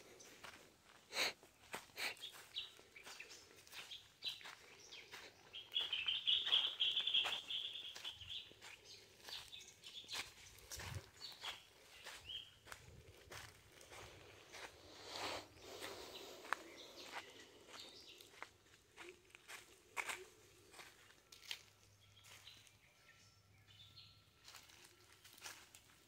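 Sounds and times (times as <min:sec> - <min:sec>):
birds chirping: 0:00.0 - 0:26.0
footsteps crunching dry leaves: 0:00.1 - 0:22.7, 0:24.4 - 0:26.0.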